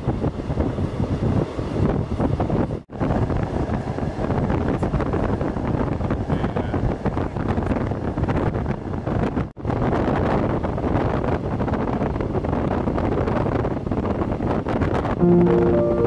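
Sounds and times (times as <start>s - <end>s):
wind noise: 0.0s - 15.2s
passenger train rumbling: 0.0s - 16.0s.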